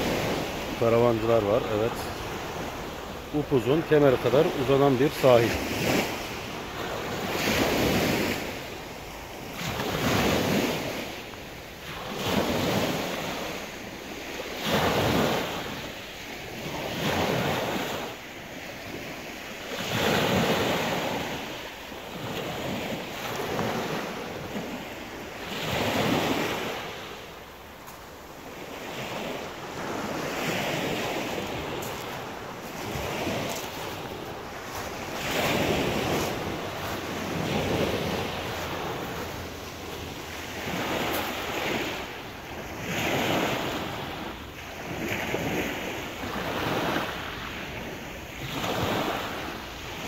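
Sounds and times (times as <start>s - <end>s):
waves washing on pebble beach: 0.0s - 50.0s.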